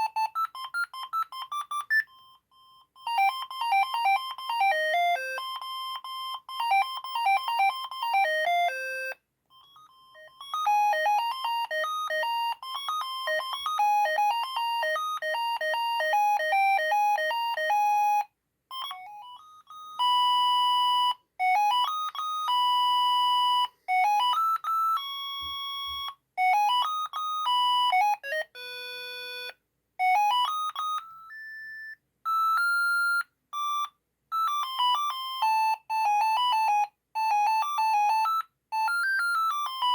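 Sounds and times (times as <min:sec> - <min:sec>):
mobile phone ringtone beeps: 0:00.0 - 0:39.9.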